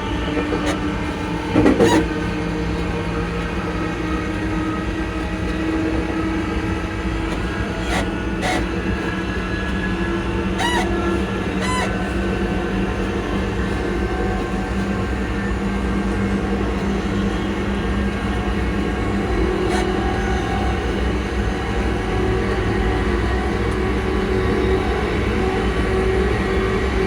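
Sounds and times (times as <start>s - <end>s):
train motors whining: 0.0s - 27.0s
train running rumble: 0.0s - 27.0s.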